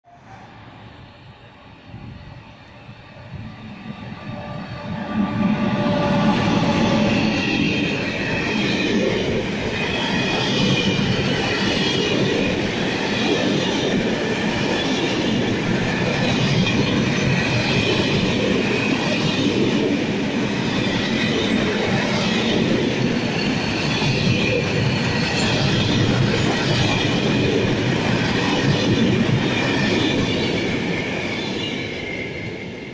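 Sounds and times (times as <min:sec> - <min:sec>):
wheels rumbling on rail: 0:00.1 - 0:32.9.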